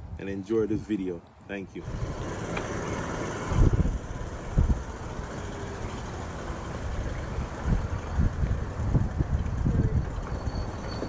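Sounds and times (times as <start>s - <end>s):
wind rumbling on microphone: 1.8s - 11.0s.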